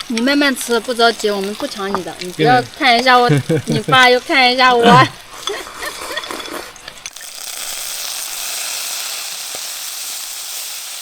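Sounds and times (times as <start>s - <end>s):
fish sizzling in a pan: 0.0s - 11.0s.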